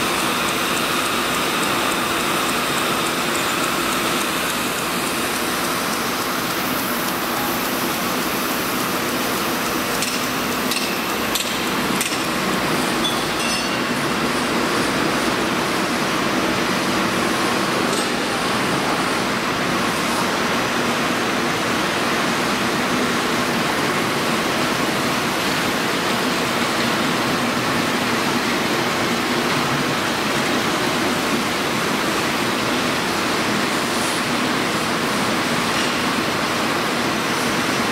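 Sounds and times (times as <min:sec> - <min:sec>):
steady machine noise: 0:00.0 - 0:37.9.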